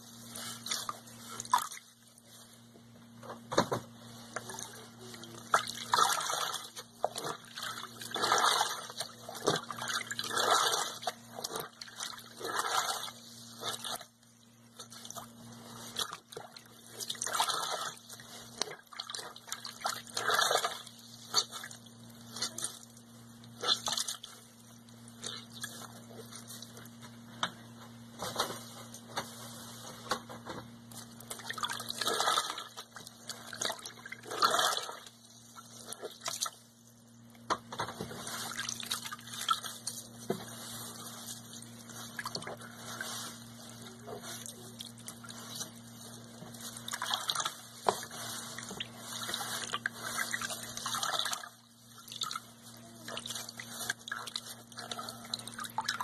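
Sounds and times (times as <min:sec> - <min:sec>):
sponges squelching in water: 0:00.2 - 0:02.6, 0:04.2 - 0:27.0, 0:30.9 - 0:36.7, 0:38.1 - 0:56.0.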